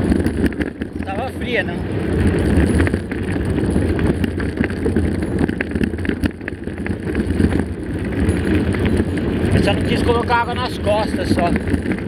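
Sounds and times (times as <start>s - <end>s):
bike clicks and rattles: 0.0s - 12.0s
bike tyres rumbling on gravel: 0.0s - 12.0s.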